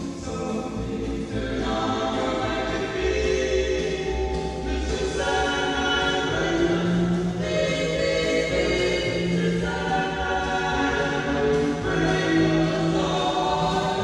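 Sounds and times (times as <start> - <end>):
distorted close-harmony vocal music: 0.0 - 14.0.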